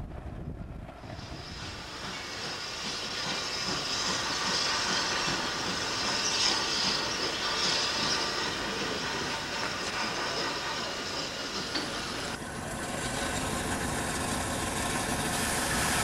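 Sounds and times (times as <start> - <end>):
steam hissing from locomotive: 1.0 - 16.0.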